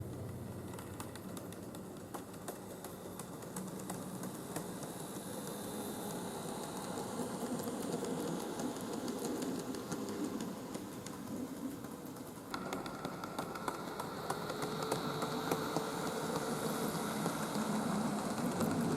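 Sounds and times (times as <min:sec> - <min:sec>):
clicks from rail joints: 0:00.0 - 0:18.9
model train wheels and motor rumbling: 0:00.0 - 0:18.9.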